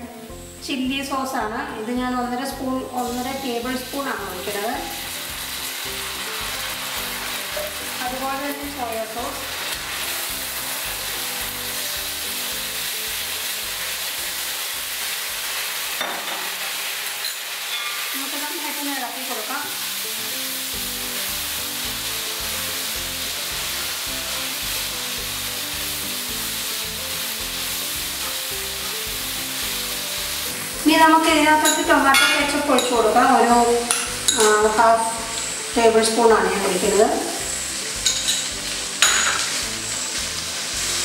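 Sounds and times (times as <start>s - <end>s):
sauce sizzling in hot oil: 0.0s - 41.0s.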